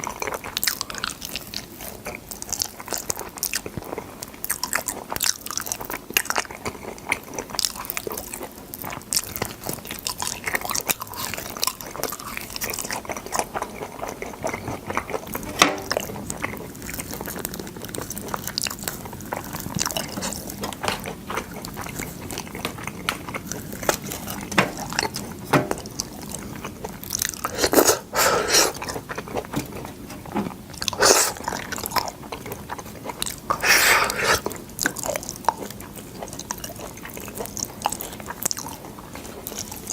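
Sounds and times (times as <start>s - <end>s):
biting and chewing bean pods: 0.0s - 39.9s.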